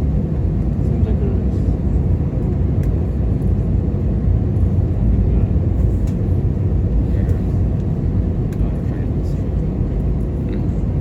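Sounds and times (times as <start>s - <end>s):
airplane engines idling: 0.0s - 11.0s.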